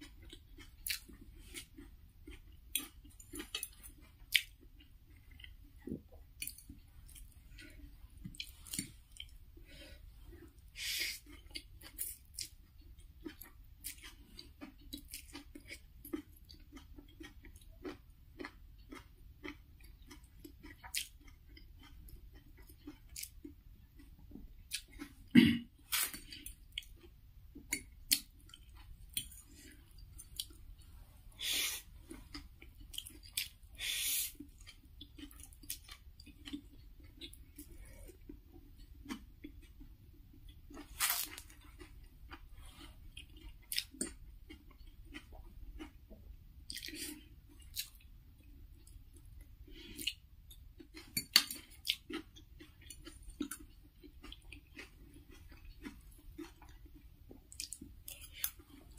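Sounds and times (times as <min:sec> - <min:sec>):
close chewing with mouth clicks: 0:00.0 - 0:58.9.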